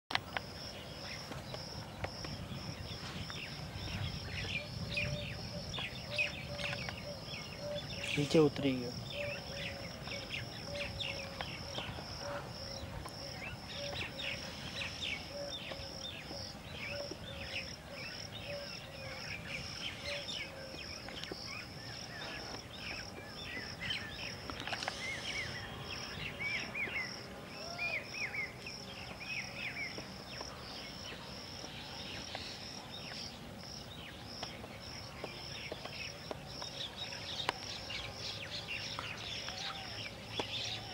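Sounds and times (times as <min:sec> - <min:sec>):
insect chirping steadily: 0:00.1 - 0:40.9
birds chirping and calling: 0:00.5 - 0:40.9.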